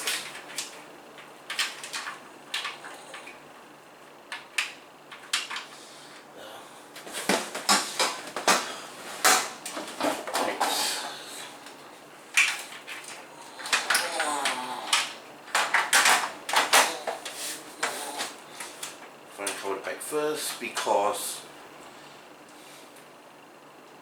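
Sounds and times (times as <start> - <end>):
computer case parts clattering: 0.0 - 5.8, 6.9 - 21.2.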